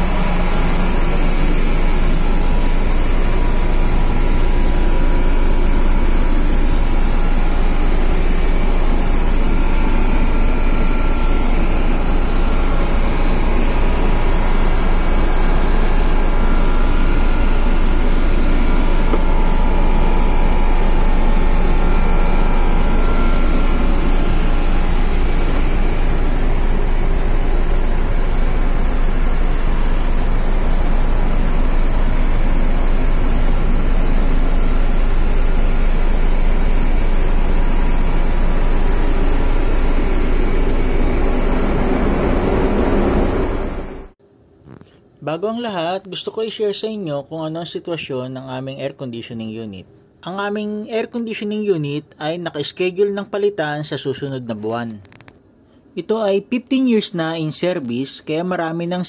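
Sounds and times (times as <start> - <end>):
air-conditioning machinery drone: 0.0 - 59.0.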